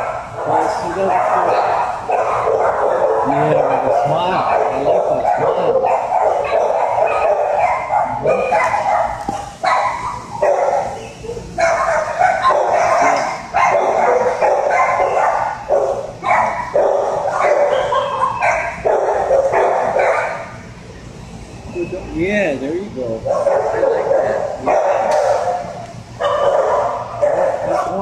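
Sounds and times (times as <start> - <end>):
dogs barking: 0.0 - 21.1, 23.1 - 28.0.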